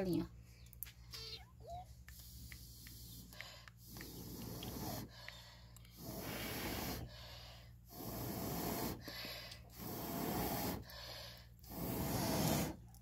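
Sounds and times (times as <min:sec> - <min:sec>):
person drawing breath: 0:02.1 - 0:12.8
person blowing into stove fire: 0:02.2 - 0:13.0.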